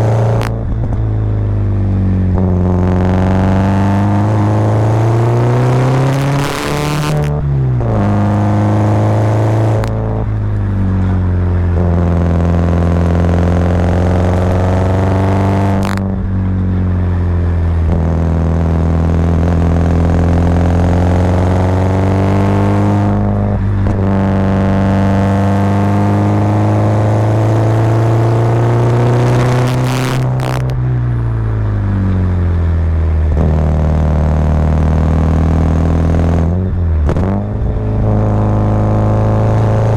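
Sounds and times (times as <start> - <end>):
car engine pulling uphill: 0.0 - 39.9.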